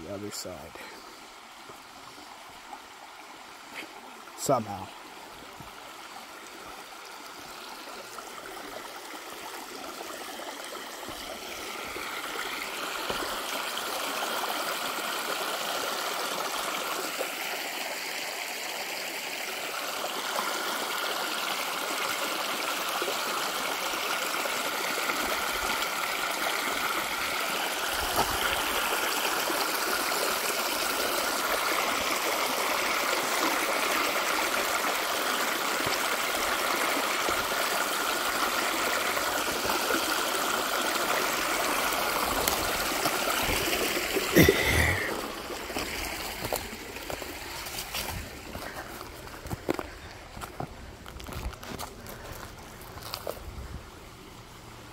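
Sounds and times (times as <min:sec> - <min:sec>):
creek trickling over stones: 0:00.0 - 0:54.9.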